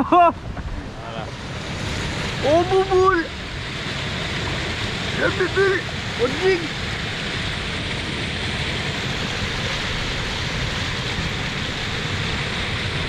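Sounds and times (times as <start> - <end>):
unsteady rumble: 0.0 - 13.0
wind blowing across microphone: 0.0 - 13.0.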